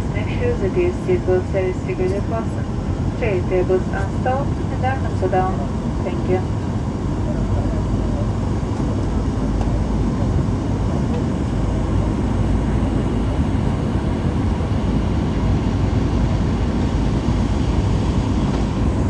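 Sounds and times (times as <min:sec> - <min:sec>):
airliner cabin engine noise: 0:00.0 - 0:19.0.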